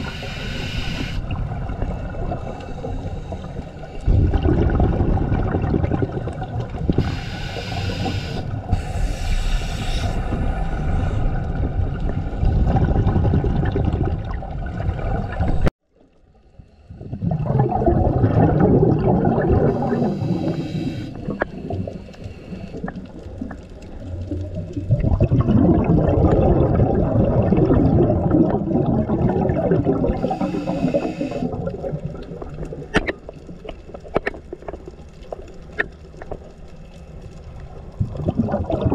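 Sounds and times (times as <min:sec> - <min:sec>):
underwater bubbles gurgling: 0:00.0 - 0:38.9.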